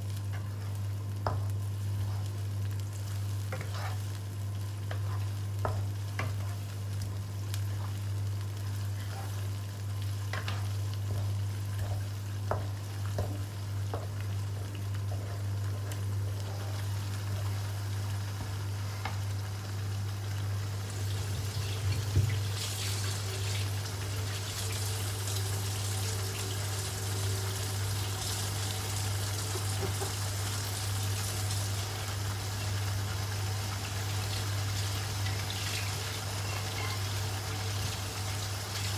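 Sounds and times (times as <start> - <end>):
chili paste sizzling in a wok: 0.0 - 38.9.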